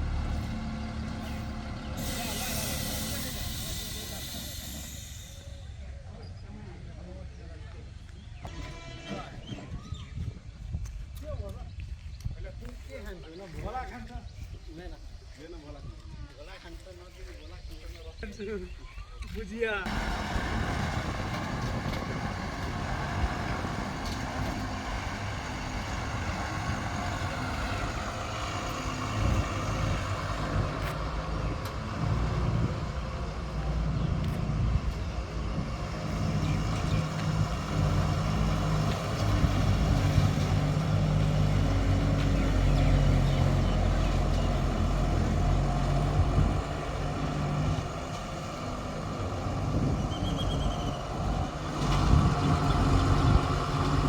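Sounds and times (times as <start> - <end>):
heavy diesel engine rumbling: 0.0 - 10.0, 19.8 - 54.0.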